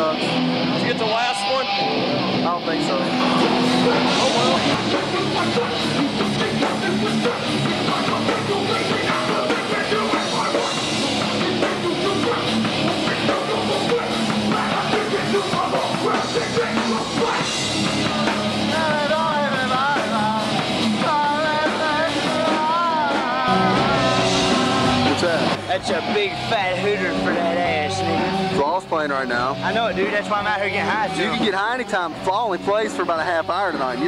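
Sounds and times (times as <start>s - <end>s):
rock band playing loud: 0.0s - 34.0s.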